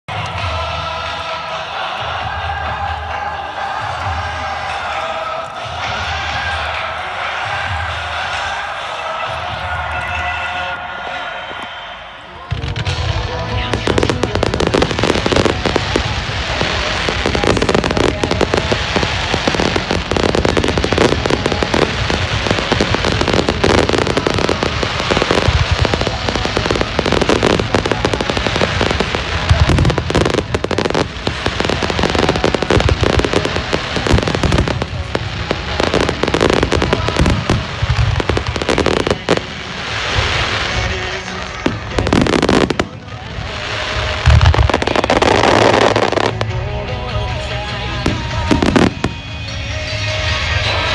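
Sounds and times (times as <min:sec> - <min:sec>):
fireworks booming and crackling: 0:00.1 - 0:11.7, 0:12.4 - 0:50.9.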